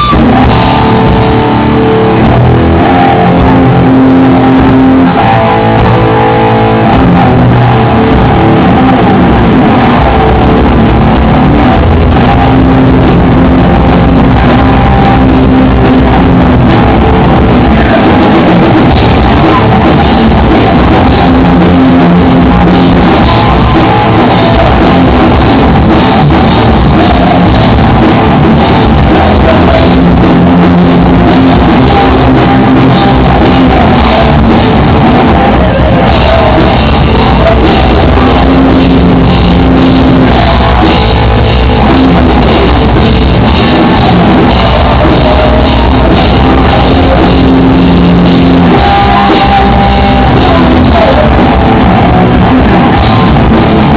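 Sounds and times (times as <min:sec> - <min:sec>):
drum kit: 0:00.0 - 0:53.9
guitar: 0:00.0 - 0:53.9.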